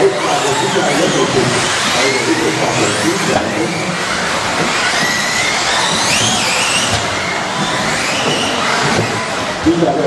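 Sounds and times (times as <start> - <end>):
electric rc car motor whines: 0.0 - 9.6.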